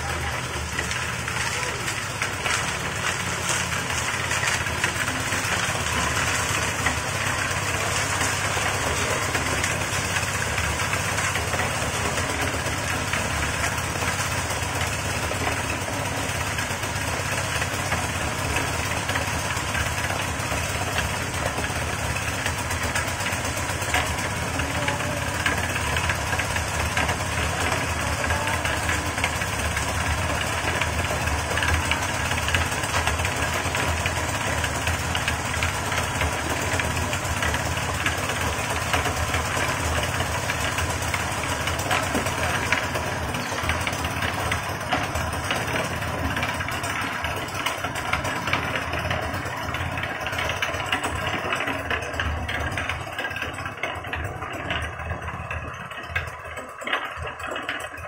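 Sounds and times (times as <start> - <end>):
concrete mixer engine running: 0.0 - 58.0.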